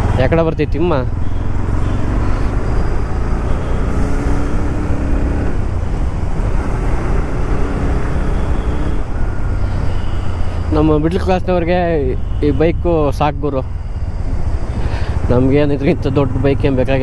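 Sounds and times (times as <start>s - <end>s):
motorcycle engine drone: 0.0s - 17.0s.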